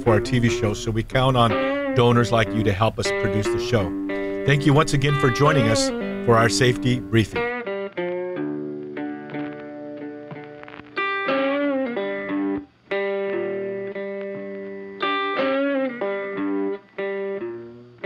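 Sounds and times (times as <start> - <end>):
electric guitar music with bends: 0.0 - 18.0.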